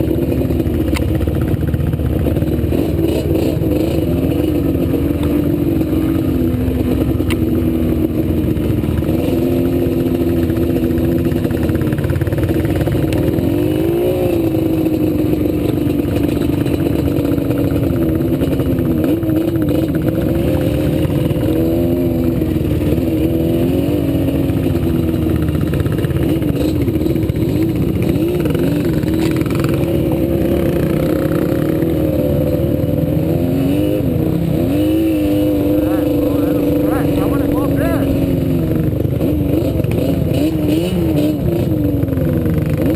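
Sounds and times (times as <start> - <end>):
atv engine revving: 0.0 - 42.9.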